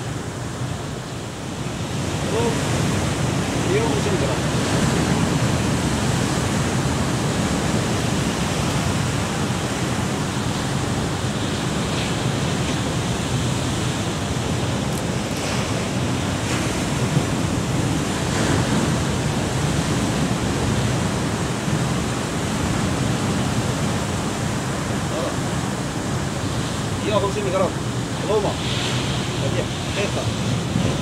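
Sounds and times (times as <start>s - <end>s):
waves breaking on rocks: 0.0s - 31.0s.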